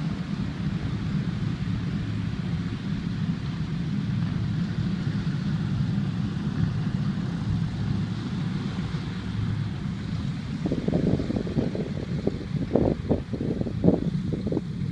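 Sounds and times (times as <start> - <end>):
piston aircraft engines rumbling: 0.0 - 14.9.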